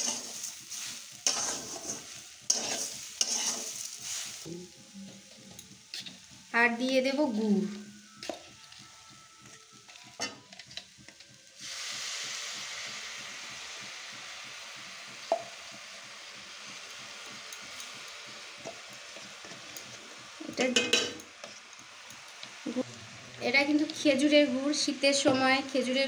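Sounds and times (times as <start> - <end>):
liquid sizzling in hot wok: 0.0 - 26.0.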